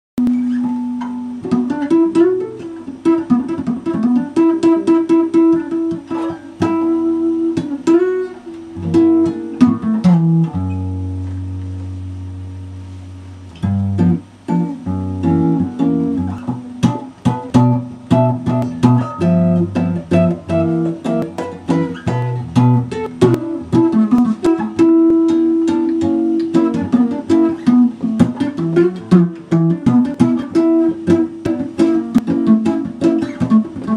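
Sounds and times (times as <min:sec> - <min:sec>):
solo guitar playing: 0:00.2 - 0:33.9.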